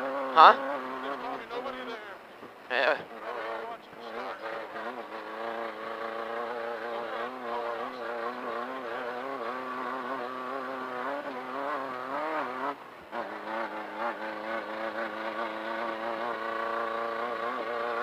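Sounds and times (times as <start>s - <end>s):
race car engine running: 0.0s - 1.9s, 3.0s - 18.0s.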